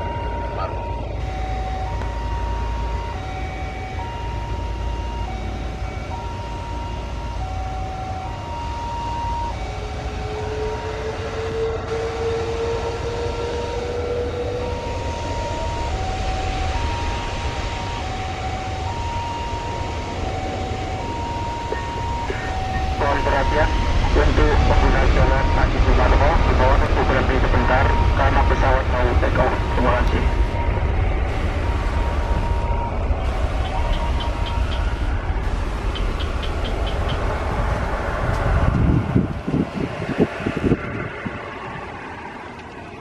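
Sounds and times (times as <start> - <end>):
jet engines rumbling and whining: 0.0 - 43.0.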